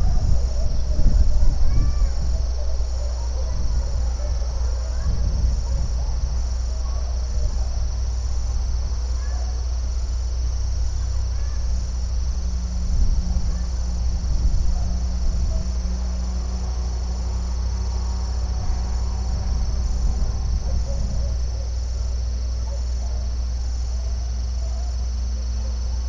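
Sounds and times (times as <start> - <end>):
constant low rumble: 0.0 - 26.0
high-pitched insect chorus: 0.0 - 26.0.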